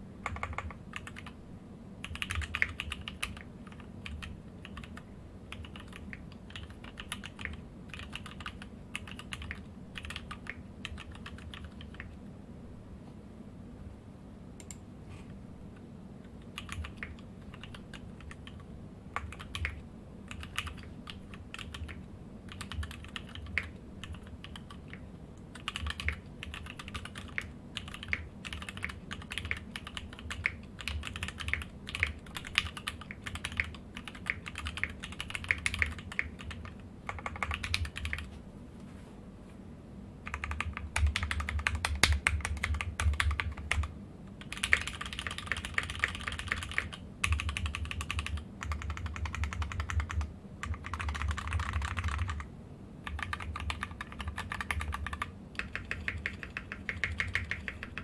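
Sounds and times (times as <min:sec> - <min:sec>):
mechanical keyboard typing: 0:00.2 - 0:01.4, 0:02.0 - 0:12.2, 0:16.2 - 0:38.3, 0:40.2 - 0:58.0.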